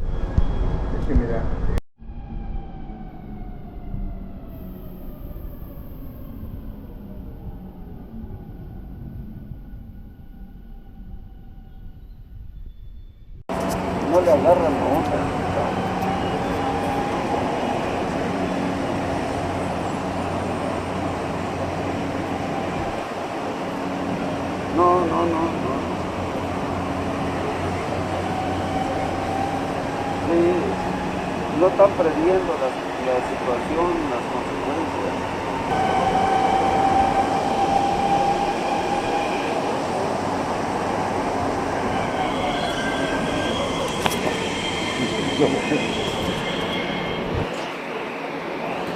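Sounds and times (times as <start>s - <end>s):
metro train rumbling: 0.0s - 48.9s.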